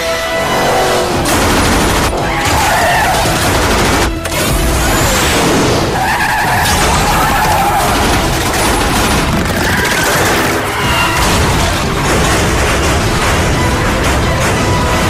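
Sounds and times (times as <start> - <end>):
wavering squeals: 0.0 - 3.6, 4.6 - 15.0
tyres skidding: 0.0 - 15.0.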